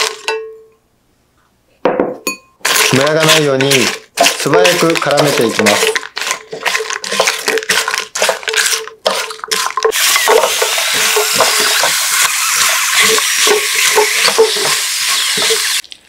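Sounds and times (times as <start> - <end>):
spatula scraping and stirring: 2.6 - 15.8
syrup sizzling: 2.6 - 15.9.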